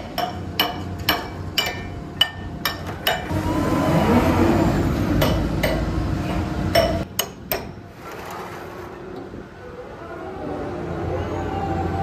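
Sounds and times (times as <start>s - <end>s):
construction machinery engine rumble: 0.0s - 12.0s.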